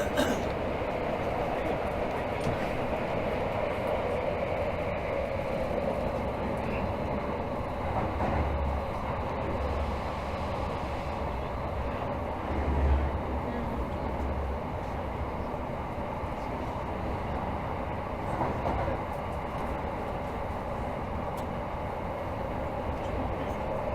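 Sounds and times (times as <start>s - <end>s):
train wheels rumbling: 0.0s - 23.9s.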